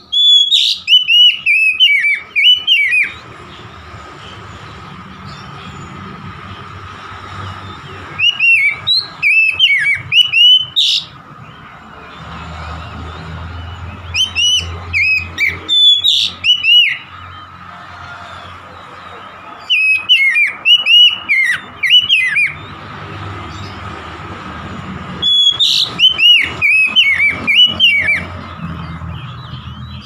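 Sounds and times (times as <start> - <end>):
bird singing whistled notes: 0.0 - 6.7, 7.3 - 11.7, 12.9 - 17.6, 19.1 - 23.8, 25.2 - 30.0.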